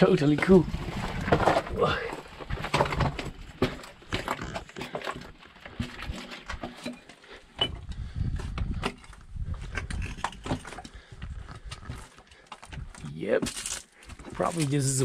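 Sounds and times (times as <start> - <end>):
footsteps on loose stones: 0.0 - 15.0.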